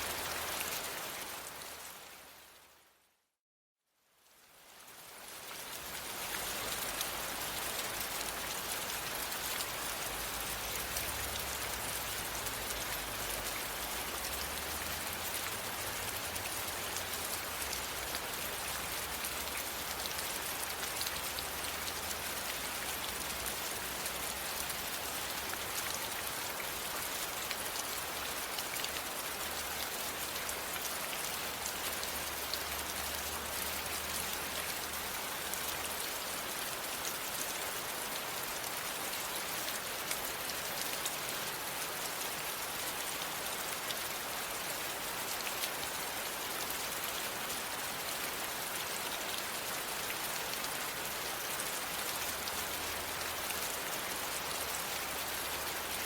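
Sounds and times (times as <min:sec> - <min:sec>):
steady rain: 0:00.0 - 0:03.1, 0:04.0 - 0:56.0.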